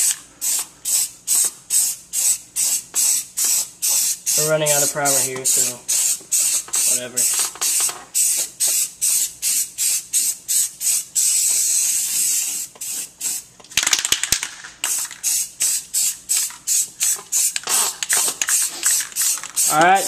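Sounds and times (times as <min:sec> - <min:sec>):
aerosol can spraying: 0:00.0 - 0:13.5, 0:14.8 - 0:20.0.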